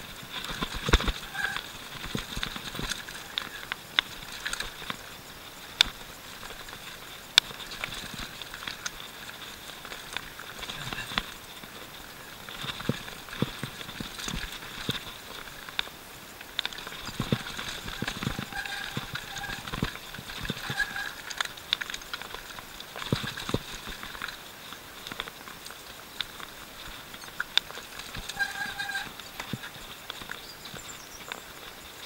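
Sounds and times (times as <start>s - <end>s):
mountain bike rattling over rocks: 0.0s - 32.0s.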